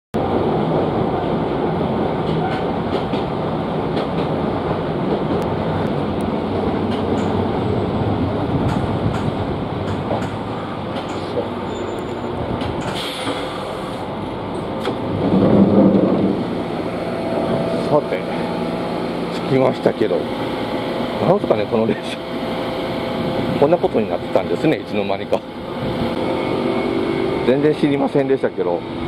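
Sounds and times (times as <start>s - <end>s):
train running rumble: 0.2s - 29.0s.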